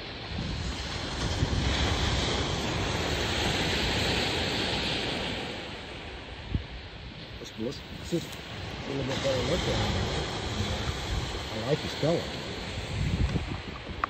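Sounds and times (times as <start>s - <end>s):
wind and surf rushing: 0.0s - 14.0s
wind gusts on microphone: 0.0s - 14.0s.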